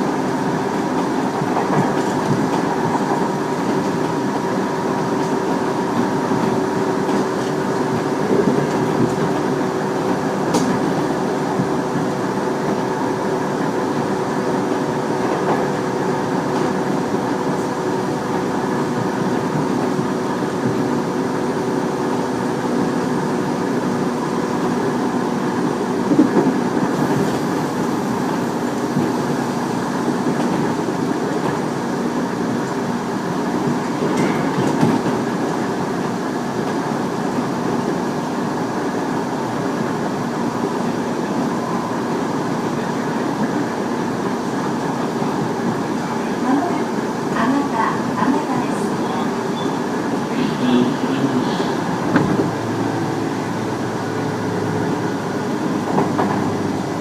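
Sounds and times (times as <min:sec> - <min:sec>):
train wheel-on-rail rumble: 0:00.0 - 0:57.0.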